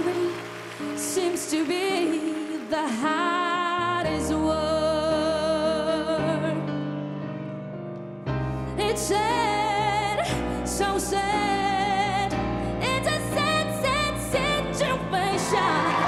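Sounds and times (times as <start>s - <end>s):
woman singing with vibrato: 0.0s - 6.6s, 8.8s - 16.0s
ballad accompaniment: 0.0s - 16.0s
piano: 0.0s - 16.0s.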